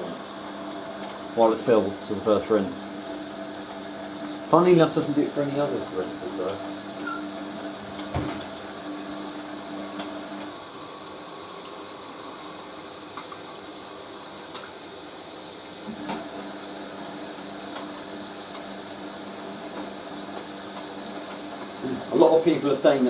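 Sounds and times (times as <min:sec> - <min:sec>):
washing machine drum motor hum: 0:00.0 - 0:23.0
water rushing into machine: 0:00.0 - 0:23.0.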